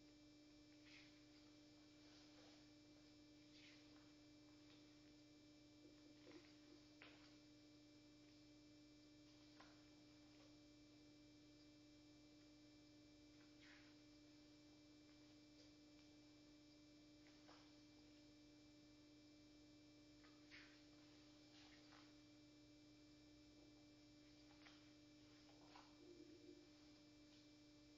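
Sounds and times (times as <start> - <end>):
faint electrical hum: 0.0 - 27.9.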